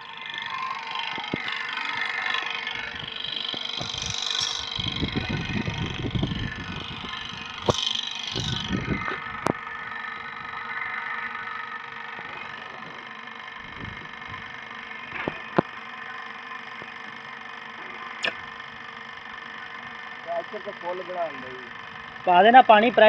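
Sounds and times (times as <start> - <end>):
water pump motor humming: 0.0 - 23.0.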